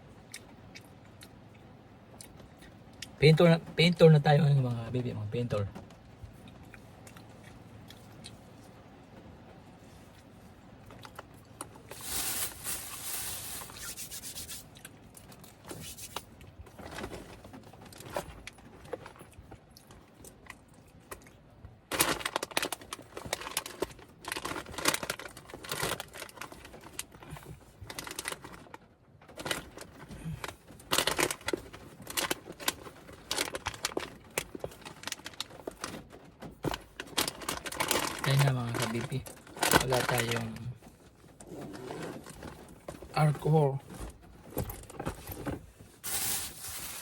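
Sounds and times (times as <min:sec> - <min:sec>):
rustling and crinkling handling: 0:03.2 - 0:47.0.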